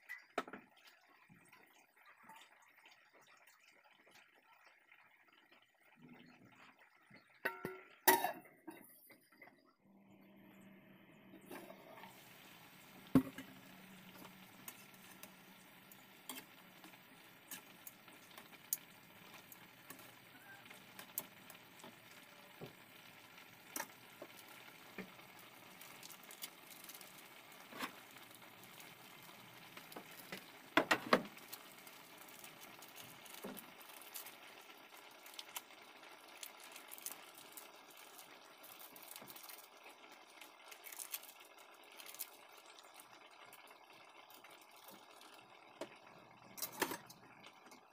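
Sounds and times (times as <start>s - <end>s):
sauce bubbling in a wok: 0.0s - 47.9s.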